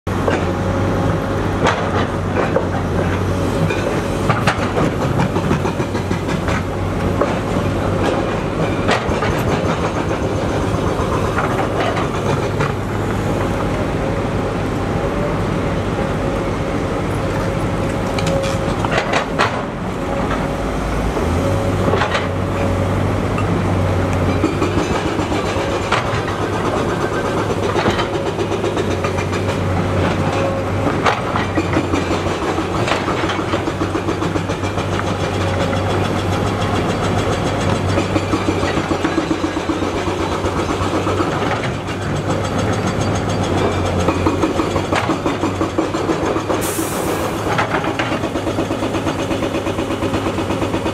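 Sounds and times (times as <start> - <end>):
excavator diesel engine under load: 0.1 - 50.9.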